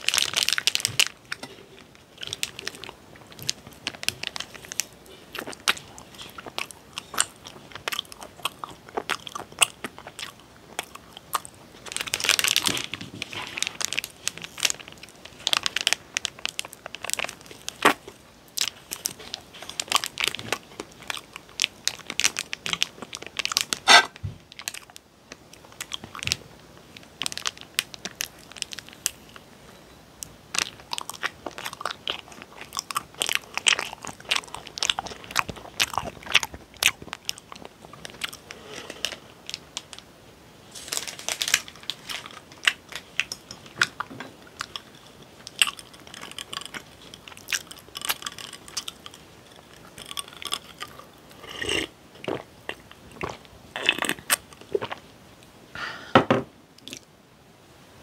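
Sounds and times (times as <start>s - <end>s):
wet chewing and mouth clicks: 0.0s - 29.5s, 30.2s - 40.1s, 41.6s - 55.1s.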